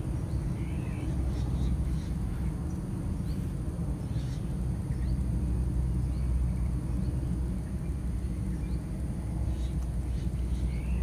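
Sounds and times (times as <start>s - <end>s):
steady low rumble: 0.0s - 11.0s
faint high bird chirps: 0.2s - 5.2s, 6.0s - 11.0s.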